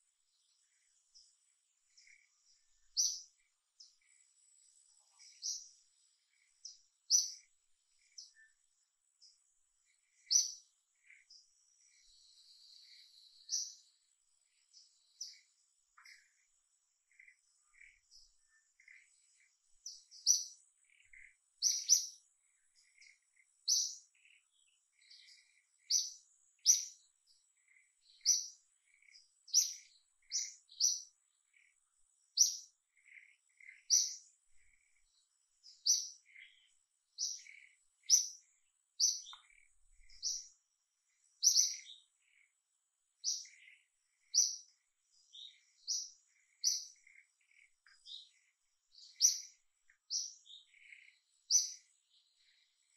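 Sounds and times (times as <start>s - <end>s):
bird chirping: 0.0s - 52.9s
faint lower chirps: 0.0s - 52.9s.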